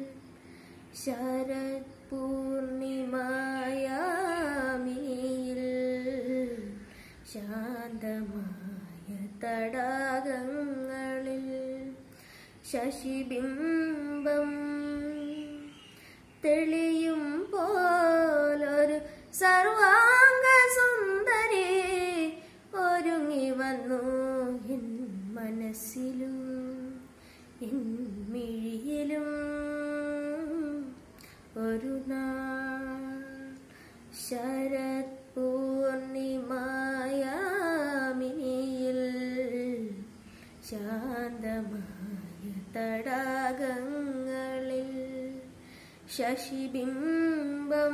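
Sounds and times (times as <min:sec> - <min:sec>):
boy singing: 0:01.0 - 0:12.0, 0:12.6 - 0:27.0, 0:34.2 - 0:47.9.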